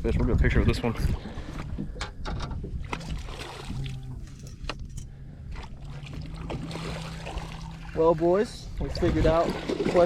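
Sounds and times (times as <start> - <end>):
low steady rumble: 0.0 - 9.9.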